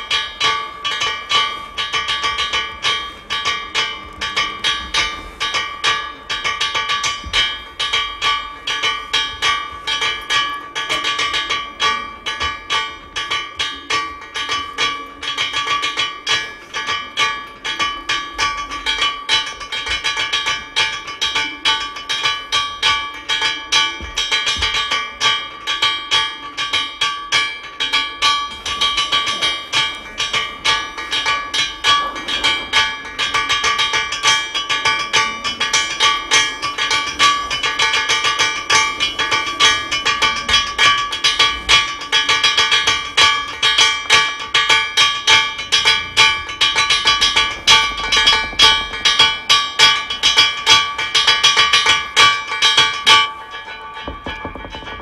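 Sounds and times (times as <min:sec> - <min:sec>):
metallic percussion strikes: 0:00.0 - 0:55.0.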